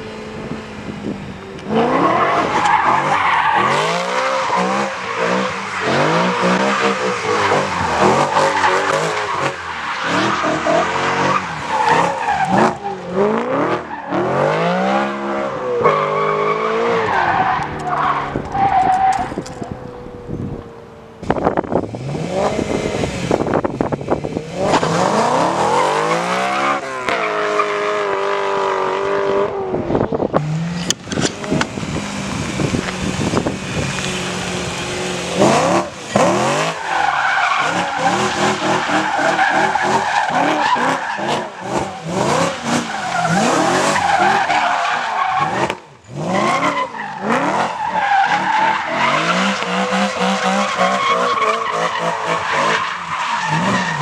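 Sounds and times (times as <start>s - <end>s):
car engine revving hard: 1.6s - 18.4s, 21.2s - 54.0s.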